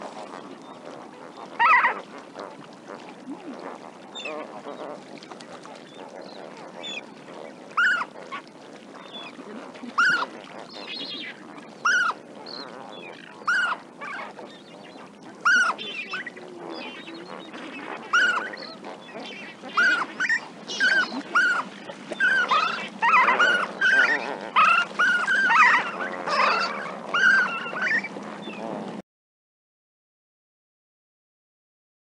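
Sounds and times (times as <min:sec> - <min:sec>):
flamingo flock chatter: 0:00.2 - 0:28.9.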